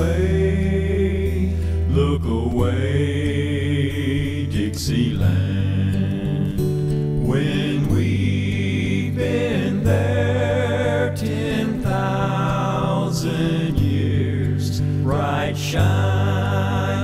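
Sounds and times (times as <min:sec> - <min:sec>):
slow song with singing voice: 0:00.0 - 0:17.0.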